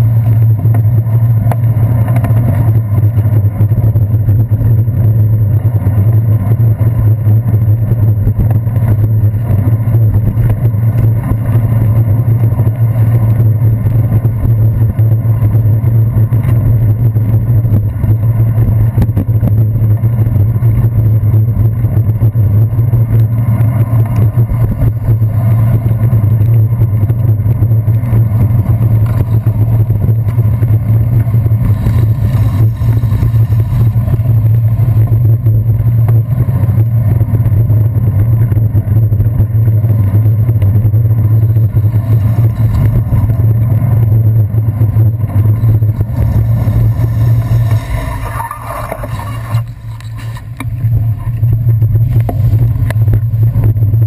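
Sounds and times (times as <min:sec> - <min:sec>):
passing traffic: 0:00.0 - 0:54.0
wind and road rumble: 0:00.0 - 0:54.0.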